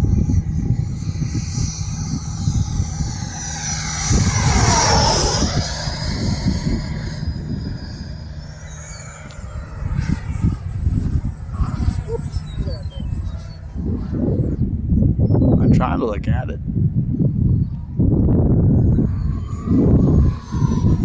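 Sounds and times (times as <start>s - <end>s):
model jet fan whine passing: 0.0s - 21.0s
wind buffeting microphone: 0.0s - 21.0s.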